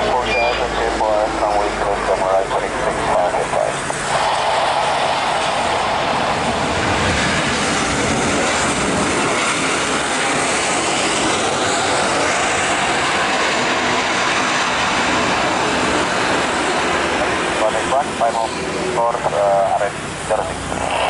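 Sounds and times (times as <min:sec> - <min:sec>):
jet airliner roaring overhead: 0:00.0 - 0:21.0.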